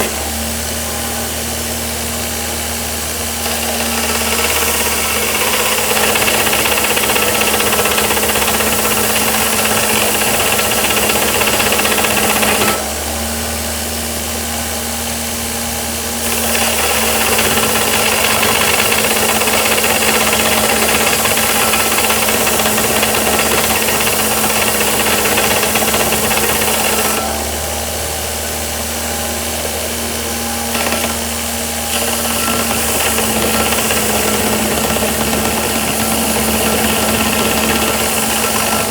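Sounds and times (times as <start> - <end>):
grinder motor hum: 0.0 - 38.9.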